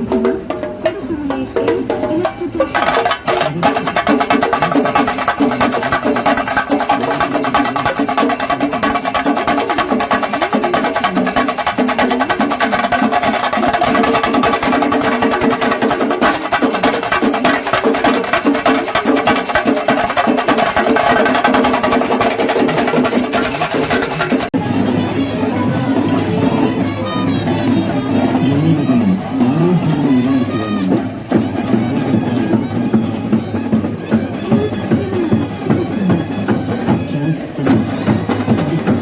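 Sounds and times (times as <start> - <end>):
fast dense drumming: 0.0 - 25.2, 26.1 - 39.0.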